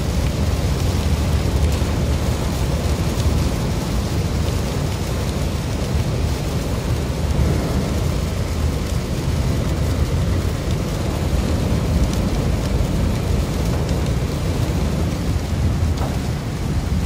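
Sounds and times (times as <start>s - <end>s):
rain on the car: 0.0s - 17.0s
road and engine rumble: 0.0s - 17.0s
tyres hissing on wet road: 0.0s - 17.0s.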